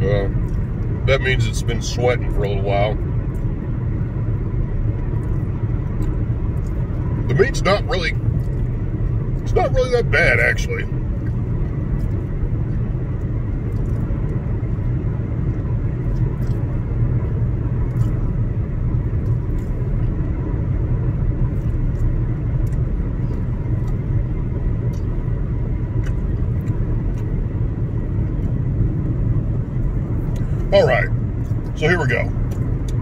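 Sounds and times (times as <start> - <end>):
car interior road rumble: 0.0 - 33.0.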